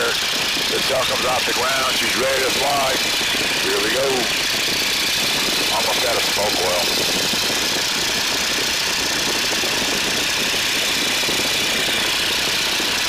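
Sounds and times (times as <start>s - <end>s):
biplane radial engine at full throttle: 0.0s - 13.0s.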